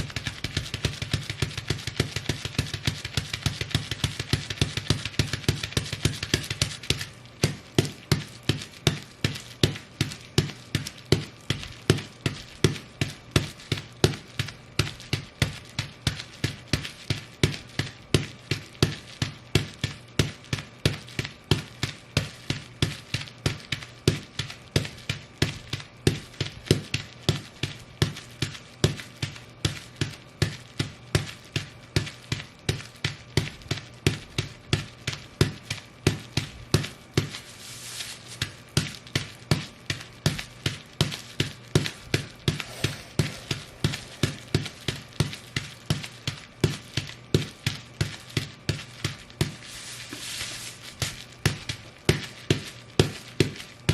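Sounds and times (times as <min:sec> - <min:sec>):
boots stomping on bubble wrap: 0:00.0 - 0:53.9.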